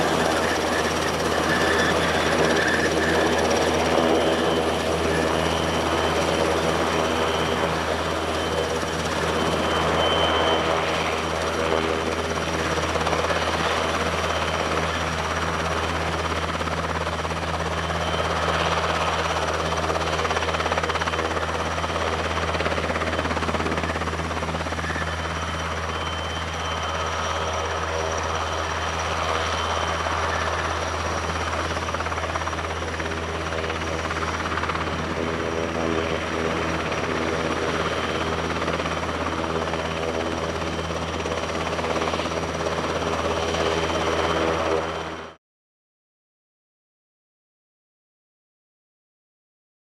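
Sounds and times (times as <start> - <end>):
helicopter rotor drone: 0.0 - 45.4
high turbine whine: 0.0 - 45.4.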